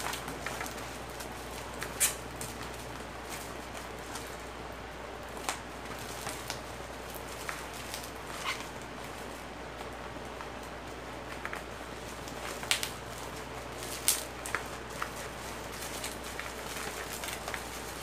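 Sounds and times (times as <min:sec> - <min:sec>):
bubble wrap crackling and popping: 0:00.0 - 0:18.0.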